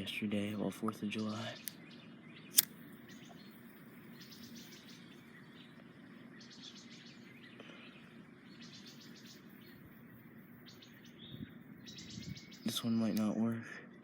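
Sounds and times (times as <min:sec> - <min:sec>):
high-pitched chirping trills: 0:01.0 - 0:13.5.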